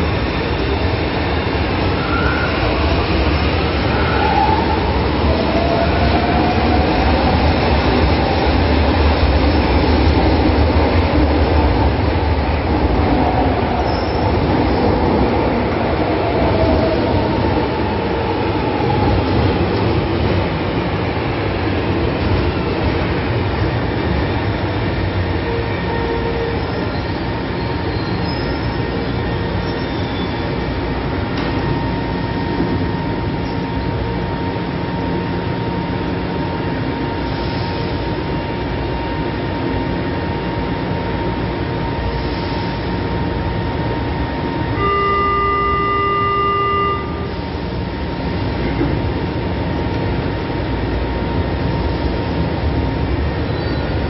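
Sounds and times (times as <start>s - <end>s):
metro train braking to a stop: 0.0s - 54.0s
train humming and whining: 0.0s - 54.0s.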